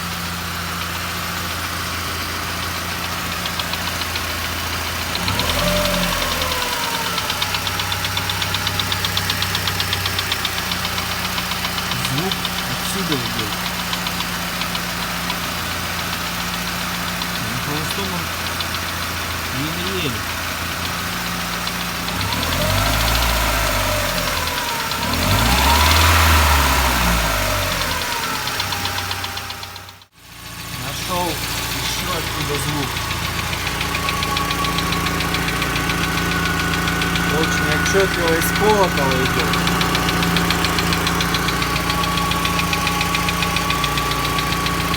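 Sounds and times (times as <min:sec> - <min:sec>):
petrol engine running: 0:00.0 - 0:44.9
rapid engine knock: 0:00.0 - 0:44.9.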